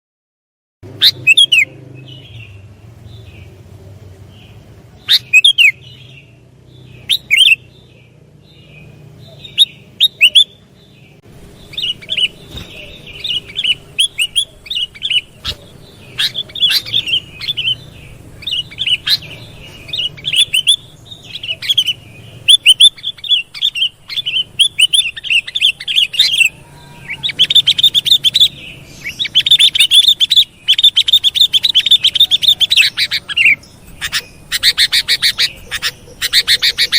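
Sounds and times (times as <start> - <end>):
bulbul chirping calls: 0.8 - 36.9.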